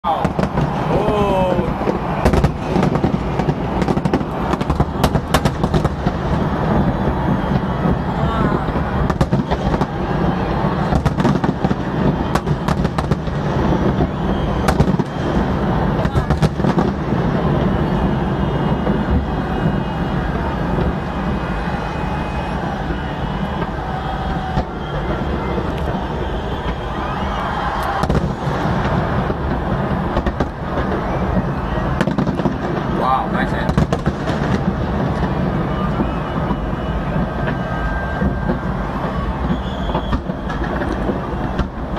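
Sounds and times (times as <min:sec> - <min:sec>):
fireworks bangs and crackles: 0:00.0 - 0:41.9
low rumble of explosions: 0:00.1 - 0:41.9.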